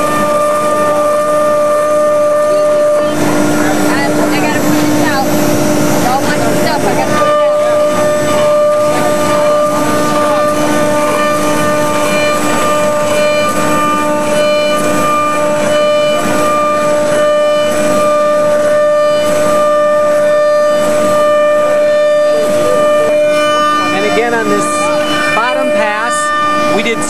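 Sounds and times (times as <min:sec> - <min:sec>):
router spindle whine: 0:00.0 - 0:27.0.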